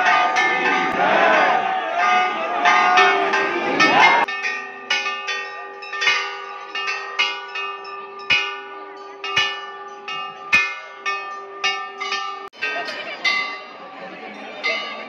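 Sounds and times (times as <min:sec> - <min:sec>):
brass bells ringing: 0:00.0 - 0:15.0.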